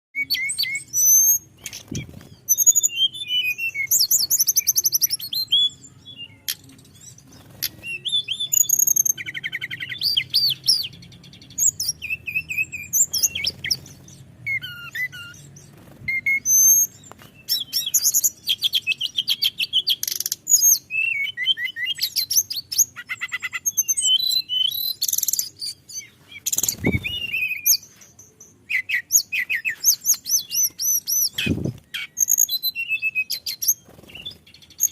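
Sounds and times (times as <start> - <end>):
bird whistling and trilling: 0.2 - 34.9.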